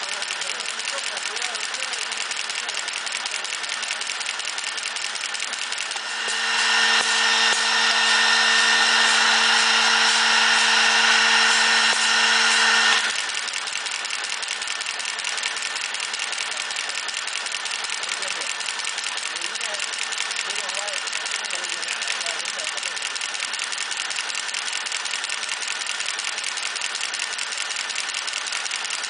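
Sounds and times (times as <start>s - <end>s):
motor hum and high whine: 0.0s - 28.6s
machine rapid clatter: 0.0s - 29.0s.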